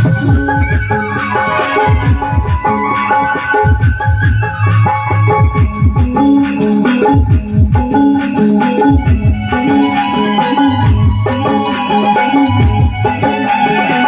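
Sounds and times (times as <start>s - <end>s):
electronic keyboard melody: 0.0s - 14.0s.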